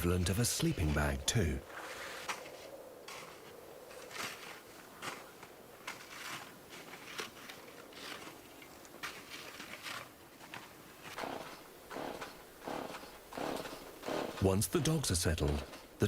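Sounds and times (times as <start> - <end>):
footsteps crunching in snow: 0.6 - 15.9
rustling: 0.6 - 16.0.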